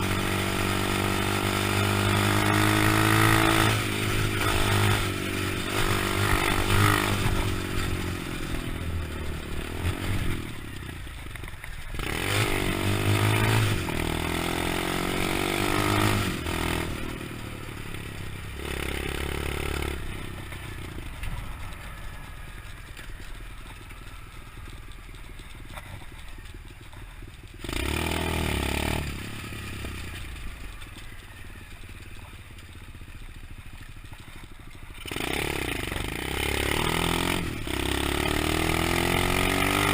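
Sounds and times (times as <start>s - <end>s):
motorbike engine revving: 0.0s - 32.2s, 34.2s - 39.9s.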